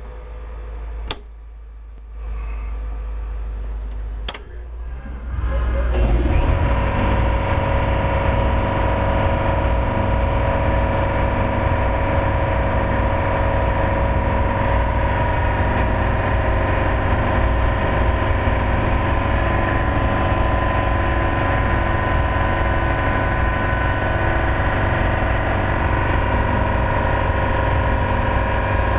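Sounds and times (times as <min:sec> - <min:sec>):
machine humming with whine: 0:00.0 - 0:28.9.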